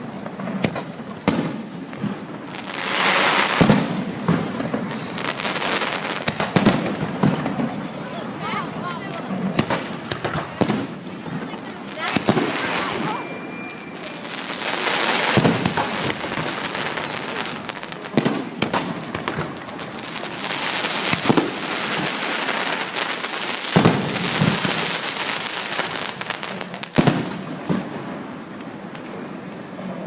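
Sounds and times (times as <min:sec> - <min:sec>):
fireworks booming: 0:00.0 - 0:30.0
fireworks crackling: 0:00.0 - 0:30.0.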